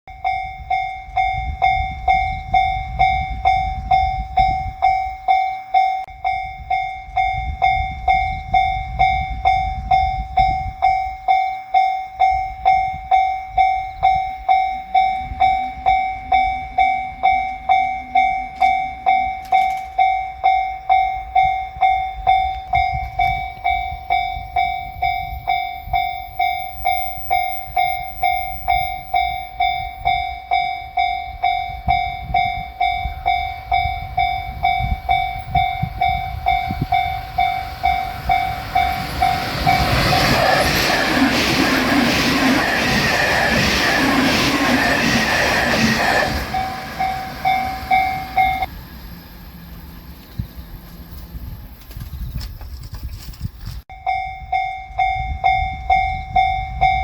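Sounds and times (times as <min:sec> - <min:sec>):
railroad crossing bell ringing: 0:00.1 - 0:51.7, 0:53.9 - 0:57.0.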